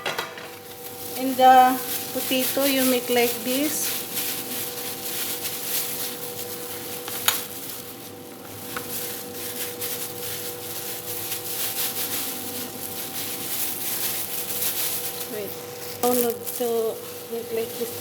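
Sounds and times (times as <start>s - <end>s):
butter sizzling in a frying pan: 0.6s - 18.0s.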